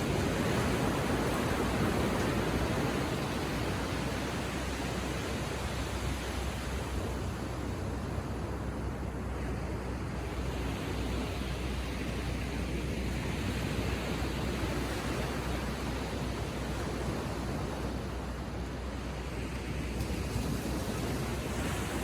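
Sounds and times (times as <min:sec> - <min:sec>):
ocean waves lapping on shore: 0:00.0 - 0:22.0.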